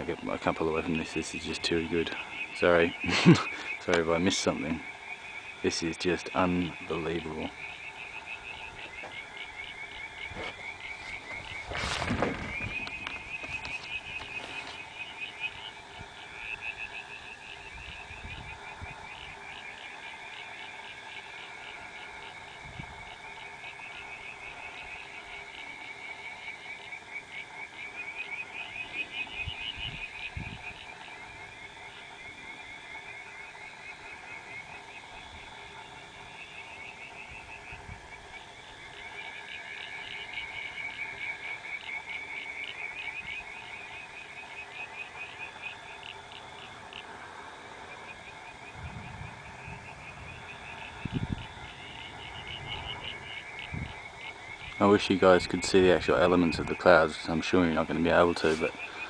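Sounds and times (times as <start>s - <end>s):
frogs trilling: 0.0s - 59.0s.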